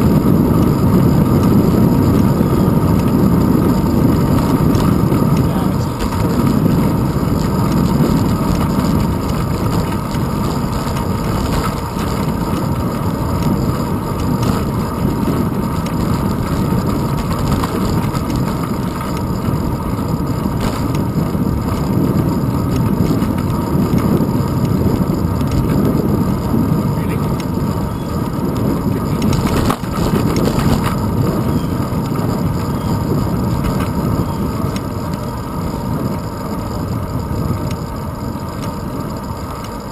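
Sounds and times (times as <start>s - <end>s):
bicycle road rumble: 0.0s - 39.9s
wind rush: 0.0s - 39.9s.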